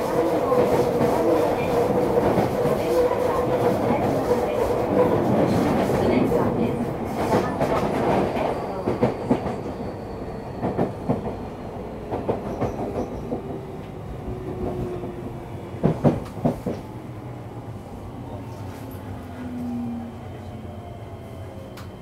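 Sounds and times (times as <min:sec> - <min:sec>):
train wheels rumbling on rails: 0:00.0 - 0:17.7.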